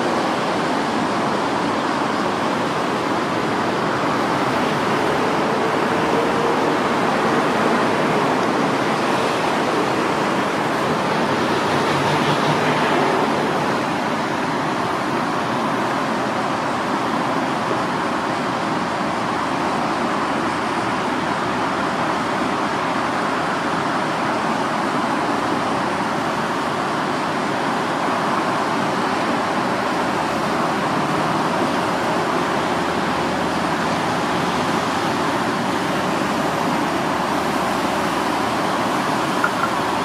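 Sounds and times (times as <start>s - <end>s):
city traffic: 0.0s - 40.0s
river water rushing: 0.0s - 40.0s.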